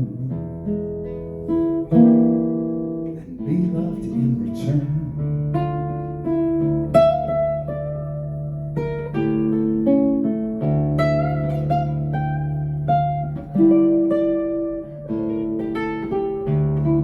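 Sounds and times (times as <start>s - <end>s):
acoustic guitar plucked chords: 0.0s - 17.0s.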